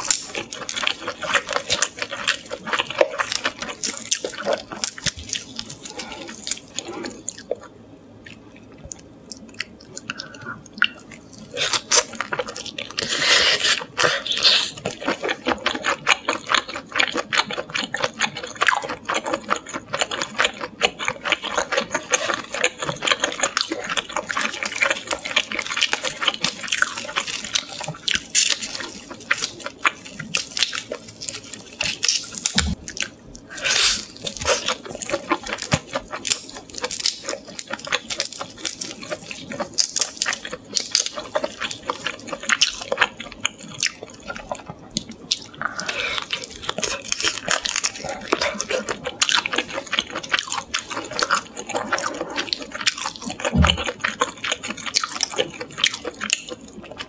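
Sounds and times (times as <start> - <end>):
chewing with wet mouth sounds: 0.0 - 57.0.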